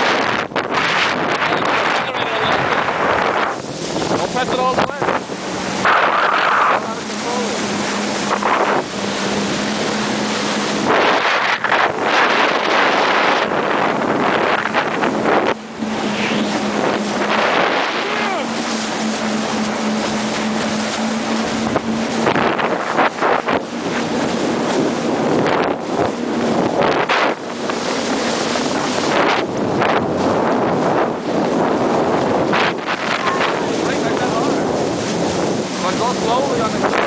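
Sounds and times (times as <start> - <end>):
boat engine hum: 0.0 - 37.0
rushing water: 0.0 - 37.0
wind buffeting the microphone: 0.0 - 37.0.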